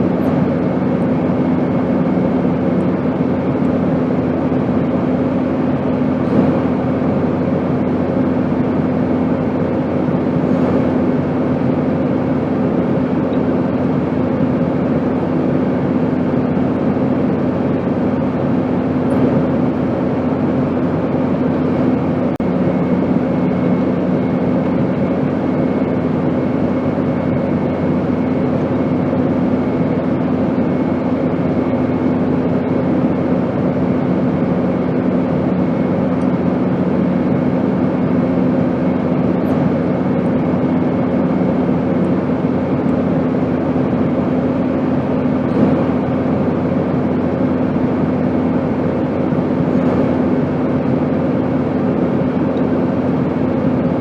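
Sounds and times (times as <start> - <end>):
airplane droning in flight: 0.0 - 54.0.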